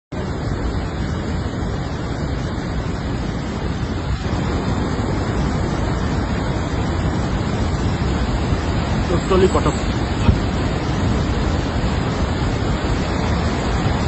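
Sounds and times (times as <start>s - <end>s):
steady low rushing noise: 0.1s - 14.0s.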